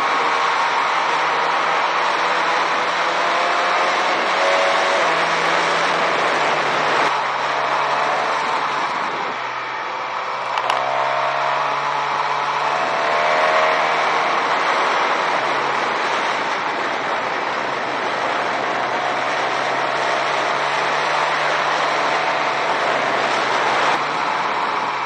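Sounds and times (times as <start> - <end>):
wind rush on microphone: 0.0 - 9.8, 10.6 - 25.0
motorcycle engine humming: 4.2 - 25.0.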